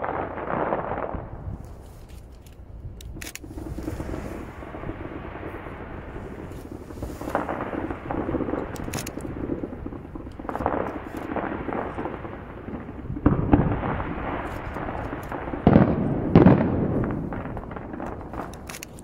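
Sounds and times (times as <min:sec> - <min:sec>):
distant fireworks booming: 0:00.0 - 0:19.0
fireworks sharp cracks: 0:00.0 - 0:19.0.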